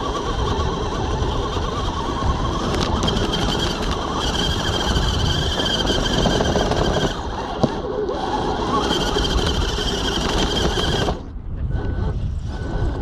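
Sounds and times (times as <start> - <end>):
electric motor and gears whining: 0.0 - 13.0.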